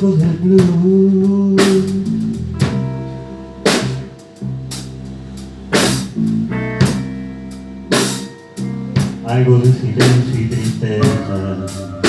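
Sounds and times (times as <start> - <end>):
bass guitar: 0.0 - 12.0
drum kit hits: 0.0 - 12.0.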